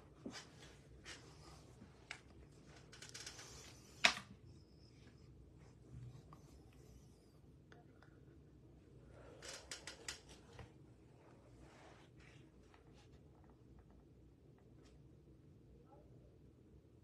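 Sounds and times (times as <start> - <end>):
faint rustles of handling: 0.0 - 7.5, 8.9 - 15.1.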